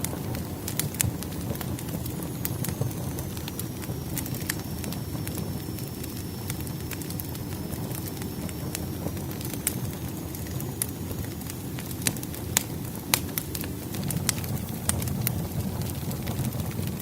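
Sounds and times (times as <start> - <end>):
fire burning: 0.0 - 17.0
wood crackling and popping: 0.0 - 17.0.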